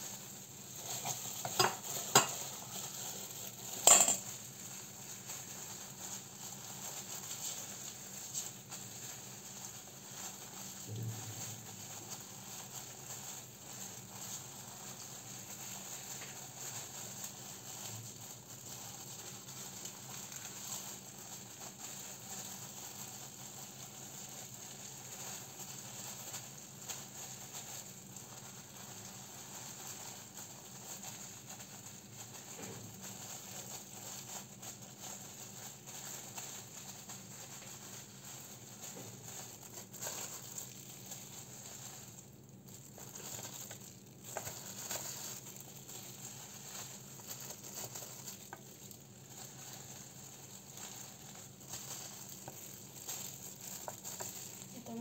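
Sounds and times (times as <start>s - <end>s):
plastic gloves crinkling: 0.0s - 55.0s
soft patting of rice: 0.0s - 55.0s.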